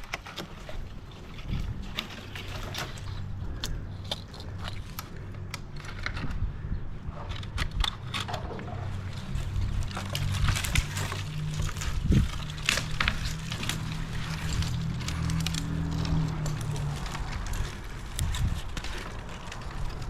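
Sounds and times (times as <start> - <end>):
twigs and leaves crackling: 0.0 - 20.0.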